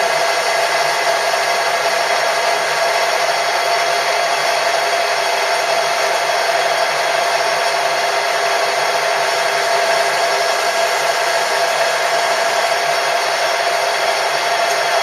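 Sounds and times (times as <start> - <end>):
machine tool whining: 0.0 - 15.0.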